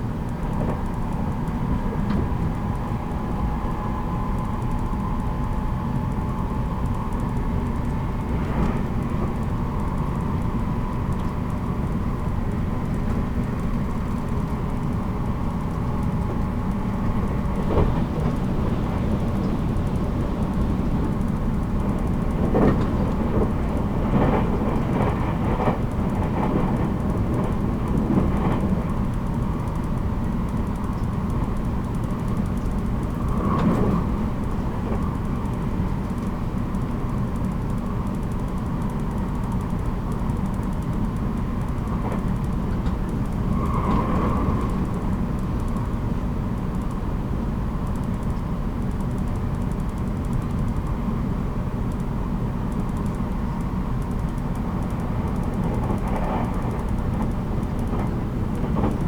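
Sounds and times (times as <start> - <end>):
electric train running: 0.6 - 59.0.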